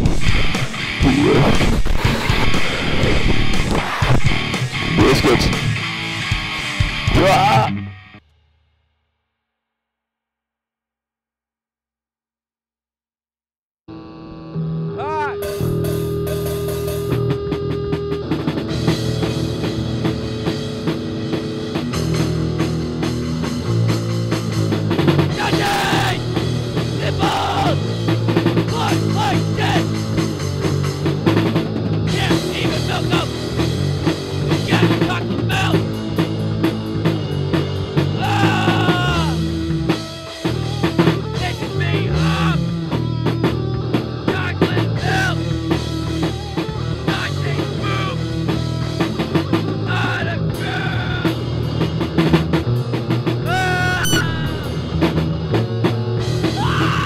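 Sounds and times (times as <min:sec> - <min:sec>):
punk rock music with drums: 0:00.0 - 0:08.3, 0:14.7 - 0:57.0.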